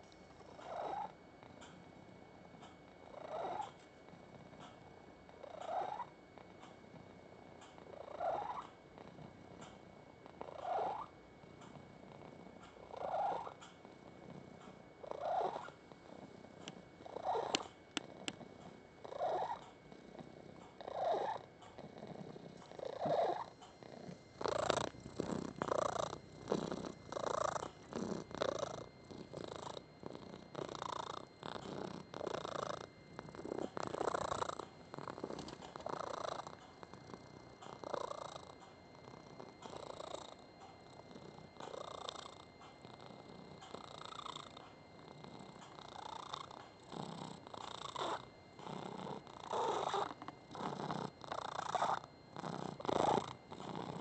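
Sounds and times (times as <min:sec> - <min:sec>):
cat purring: 0:00.0 - 0:54.0
squeaky chirping purr: 0:00.4 - 0:01.7, 0:02.6 - 0:03.8, 0:04.5 - 0:06.8, 0:07.6 - 0:09.8, 0:10.4 - 0:54.0.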